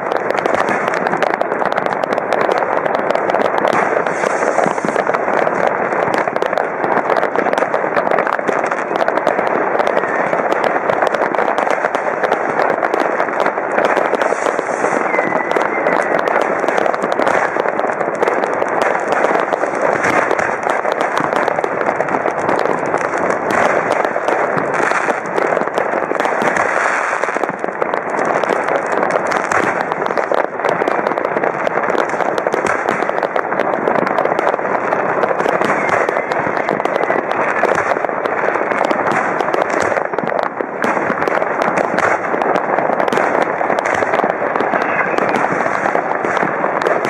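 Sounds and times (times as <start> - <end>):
firecrackers crackling: 0.0 - 47.0.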